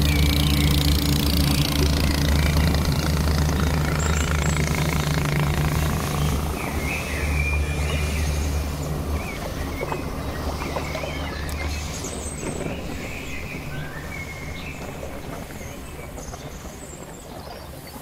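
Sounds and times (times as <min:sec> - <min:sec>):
water rushing: 0:00.0 - 0:17.3
boat engine humming: 0:00.0 - 0:18.0
wind: 0:00.0 - 0:18.0.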